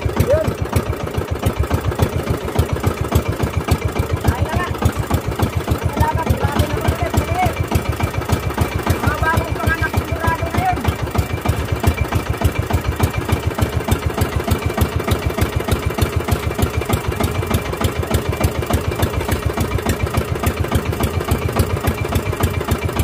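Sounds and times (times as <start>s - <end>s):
boat engine puttering: 0.0s - 23.0s.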